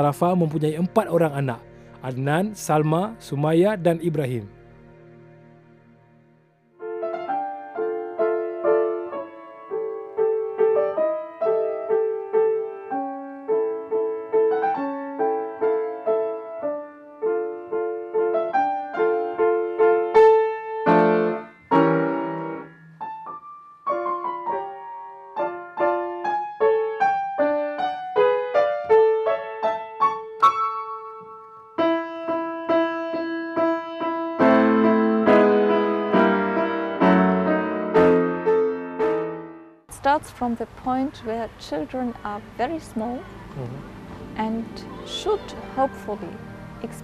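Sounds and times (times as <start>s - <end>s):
solo piano melody: 0.0s - 47.0s.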